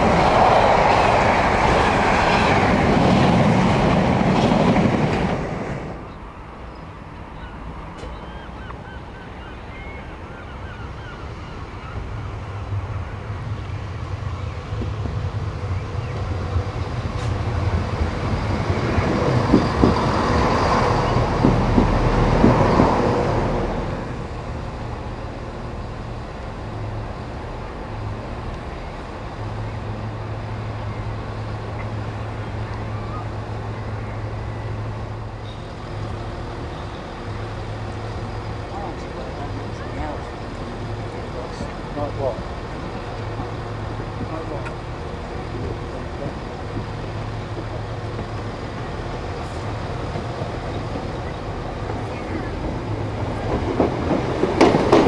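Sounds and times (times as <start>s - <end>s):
train wheels on rails: 0.0s - 8.8s, 12.0s - 55.0s
diesel train engines: 0.0s - 55.0s.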